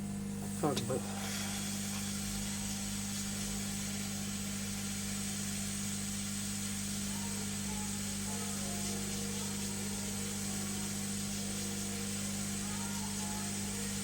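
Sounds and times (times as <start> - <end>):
airy hiss of equipment: 0.0 - 14.0
electrical mains hum: 0.0 - 14.0.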